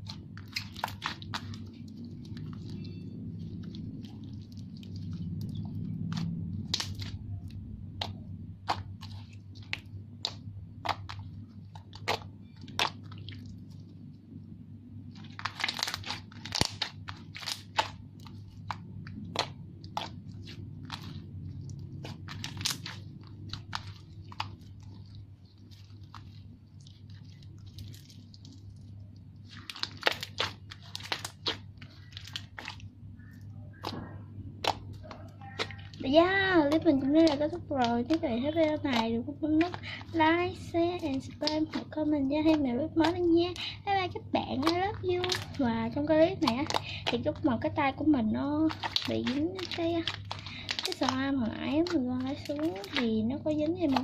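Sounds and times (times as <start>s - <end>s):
faint low hum: 0.0s - 54.0s
slime popping and crackling: 0.0s - 54.0s.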